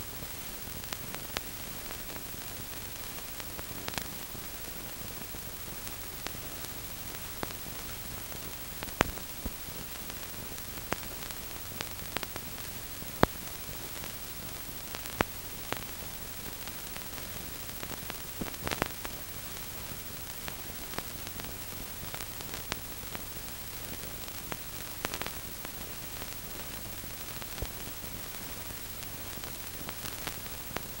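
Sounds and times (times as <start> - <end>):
film soundtrack hiss: 0.0 - 31.0
sharp clicks and crackles: 0.1 - 31.0.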